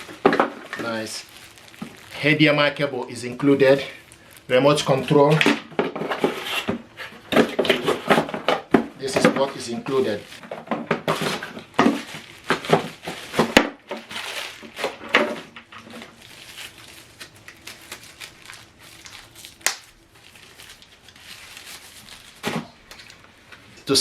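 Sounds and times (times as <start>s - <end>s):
plastic packaging crinkling: 0.0s - 23.8s.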